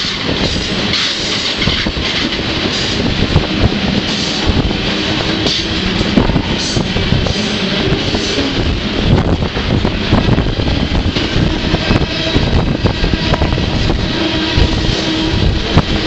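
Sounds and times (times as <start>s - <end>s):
clanks of train wheels: 0.0s - 16.0s
freight train rumbling: 0.0s - 16.0s.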